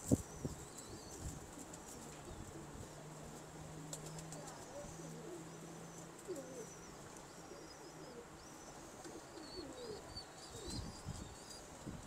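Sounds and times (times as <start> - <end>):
small birds chirping: 0.0 - 2.8, 3.8 - 12.0
pigeons cooing: 0.0 - 11.8.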